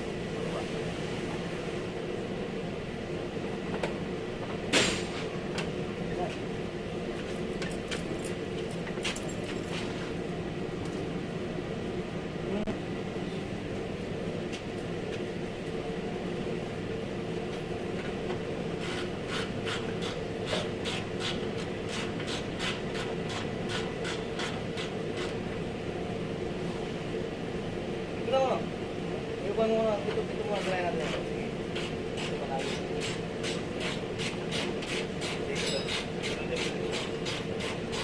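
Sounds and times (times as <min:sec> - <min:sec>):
steady mechanical hum: 0:00.0 - 0:38.0.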